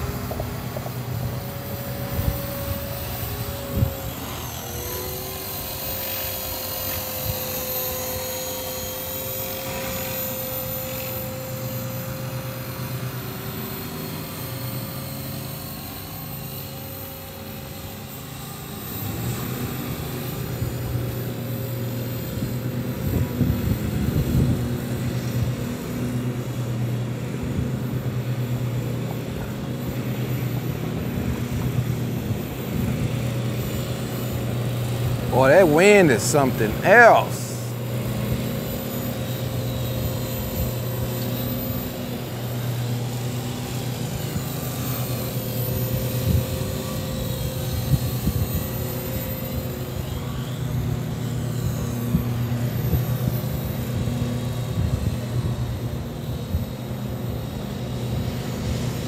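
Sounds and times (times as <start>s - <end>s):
rc helicopter whine: 0.0s - 59.0s.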